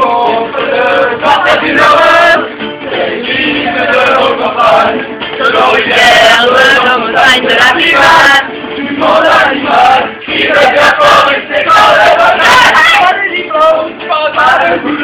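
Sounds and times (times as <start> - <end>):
group of people singing: 0.0 - 15.0.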